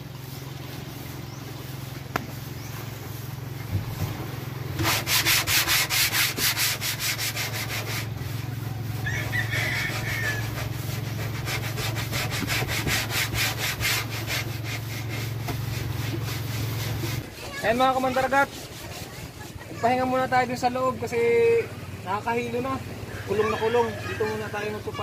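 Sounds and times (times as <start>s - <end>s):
steady low hum: 0.0s - 23.4s
paintbrush scrubbing on wood: 0.0s - 25.0s.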